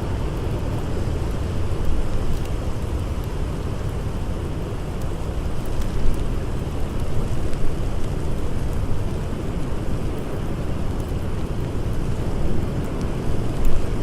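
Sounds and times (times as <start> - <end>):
faint campfire crackles: 0.0 - 14.0.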